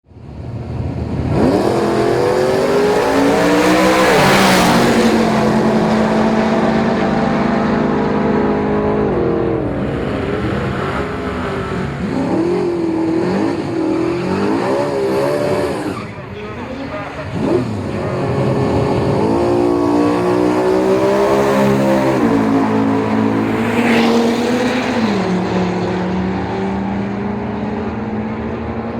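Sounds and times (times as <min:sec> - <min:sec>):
racing car engine revving: 0:00.8 - 0:28.9.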